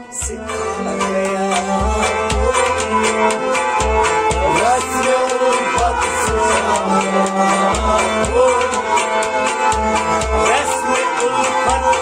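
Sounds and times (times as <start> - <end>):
harmonium chords: 0.0 - 12.0
man singing: 0.0 - 12.0
deep drum beats: 0.2 - 12.0
plucked rabab: 0.4 - 12.0.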